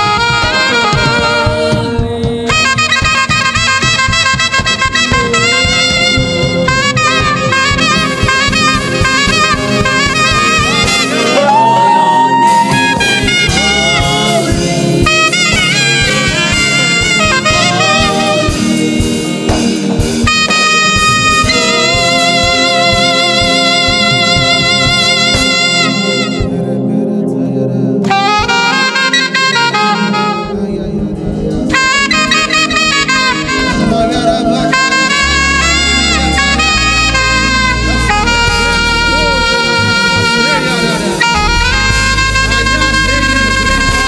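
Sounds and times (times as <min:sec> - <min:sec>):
gospel band playing: 0:00.0 - 0:44.0
saxophone melody: 0:00.0 - 0:44.0.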